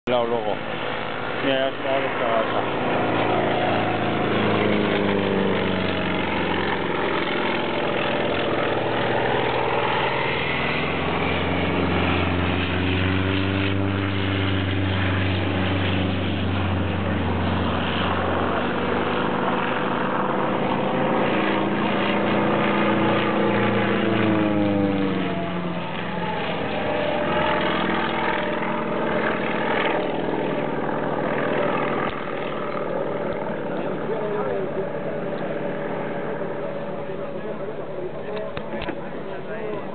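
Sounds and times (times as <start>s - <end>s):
propeller plane engine running hard: 0.0s - 39.9s.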